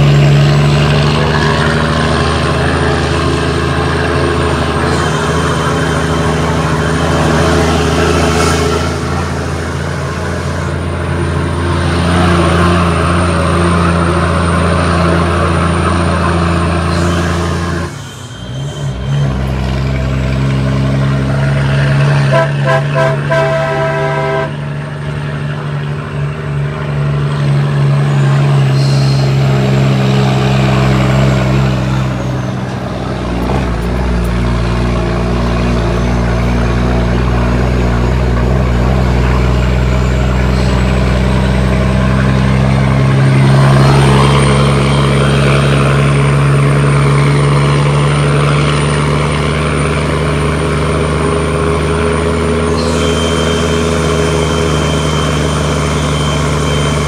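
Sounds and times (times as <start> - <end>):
truck horn: 0.0 - 24.8, 28.0 - 32.7, 35.6 - 48.6, 51.2 - 57.0
diesel truck engine under load: 0.0 - 57.0.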